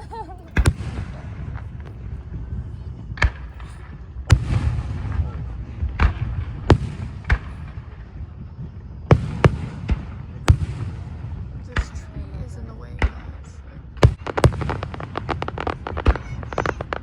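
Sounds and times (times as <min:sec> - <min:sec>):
continuous low rumble: 0:00.0 - 0:17.0
fireworks sharp bangs: 0:00.0 - 0:17.0.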